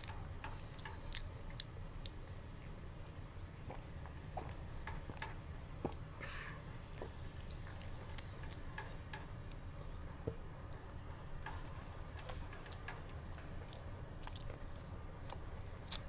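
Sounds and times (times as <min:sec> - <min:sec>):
person chewing and smacking: 0:00.0 - 0:16.0
steady low hum: 0:00.0 - 0:16.0.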